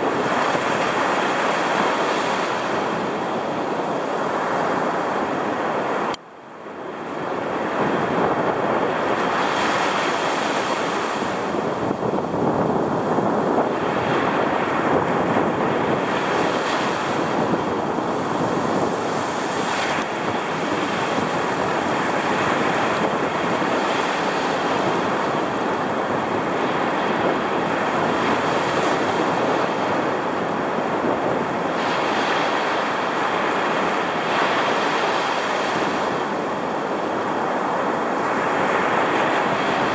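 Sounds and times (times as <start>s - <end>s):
surf crashing on beach: 0.0s - 39.9s
wind buffeting microphone: 0.0s - 39.9s.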